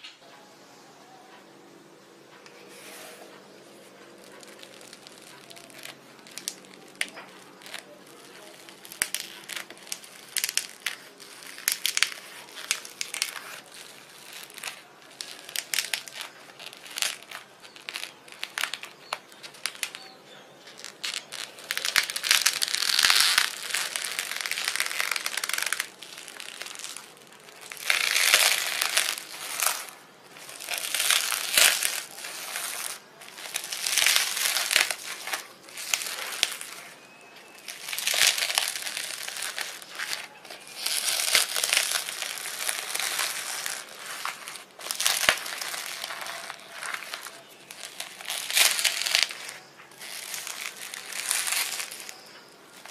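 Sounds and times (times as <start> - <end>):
slime squelching and popping: 4.2 - 52.9.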